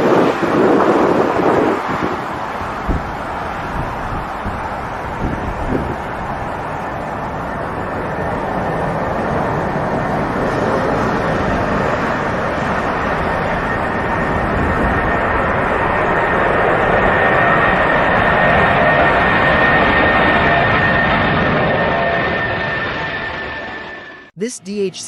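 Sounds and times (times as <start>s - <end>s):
jet engine roar: 0.0s - 24.3s.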